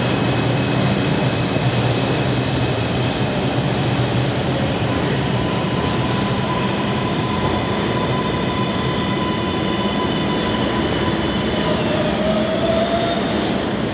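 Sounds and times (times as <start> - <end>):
subway train wheels rumbling: 0.0 - 13.9.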